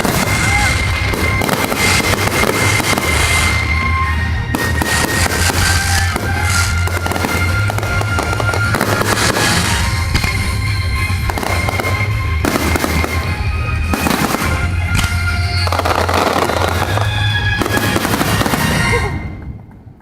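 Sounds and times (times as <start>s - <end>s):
fireworks bursting and crackling: 0.0s - 20.0s
music playing: 0.0s - 20.0s.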